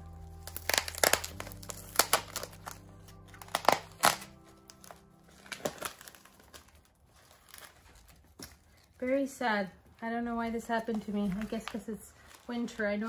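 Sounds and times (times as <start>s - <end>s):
plastic bag crinkling: 0.0s - 9.3s, 9.9s - 13.0s
soft background music: 0.0s - 13.0s.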